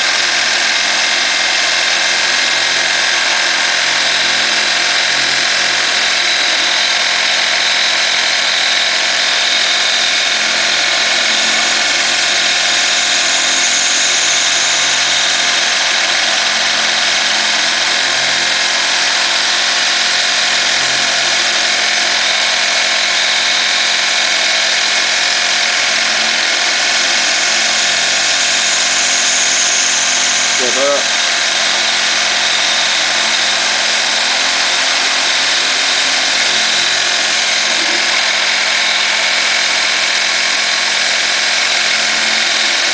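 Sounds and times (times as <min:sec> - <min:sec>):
end mill cutting metal: 0:00.0 - 0:42.9
milling machine spindle running: 0:00.0 - 0:42.9.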